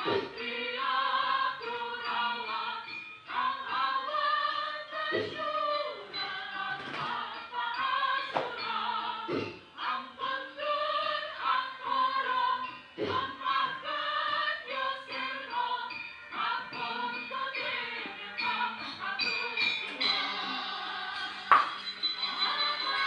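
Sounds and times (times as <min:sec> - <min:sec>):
sustained metallophone tones: 0:00.0 - 0:23.0
voices singing: 0:00.0 - 0:23.0.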